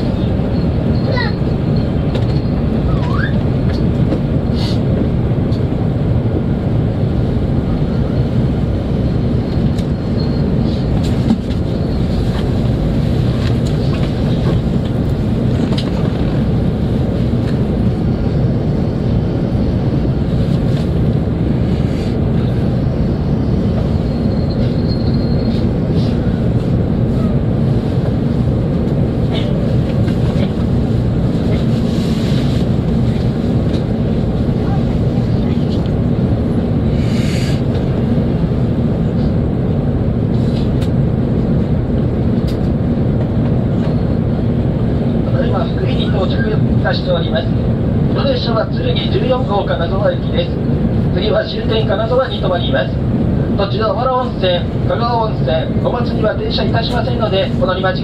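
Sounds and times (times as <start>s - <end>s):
train cabin rumble and rush: 0.0s - 58.0s.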